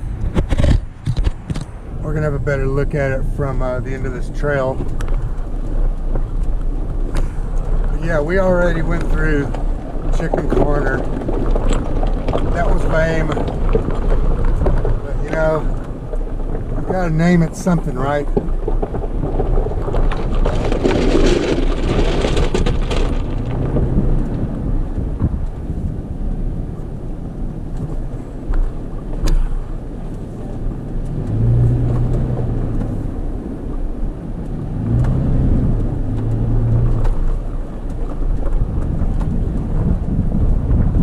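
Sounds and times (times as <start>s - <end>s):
vehicle engine running: 0.0s - 41.0s
wind on microphone: 0.0s - 41.0s.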